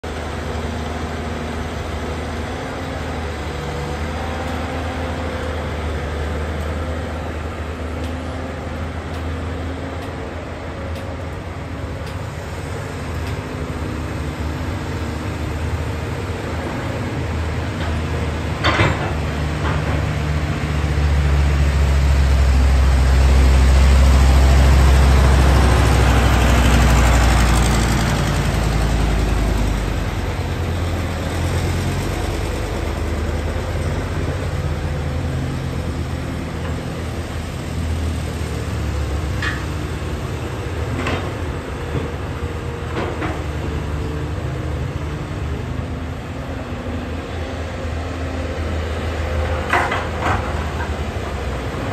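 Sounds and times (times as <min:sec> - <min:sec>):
excavator diesel engine running: 0:00.1 - 0:51.9.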